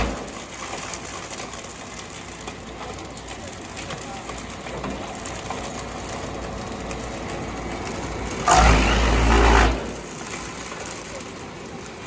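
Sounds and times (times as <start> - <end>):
wood chipper chipping material: 0.0 - 12.0
wood chipper running: 0.0 - 12.0.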